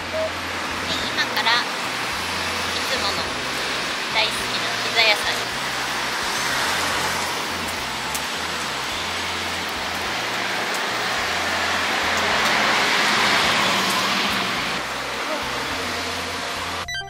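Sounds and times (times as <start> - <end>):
street ambience hiss: 0.0 - 16.8.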